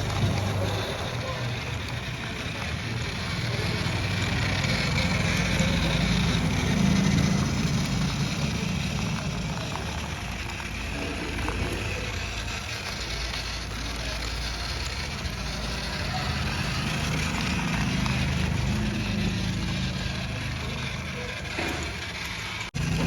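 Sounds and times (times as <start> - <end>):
toy tractor motor drone: 0.0 - 23.0.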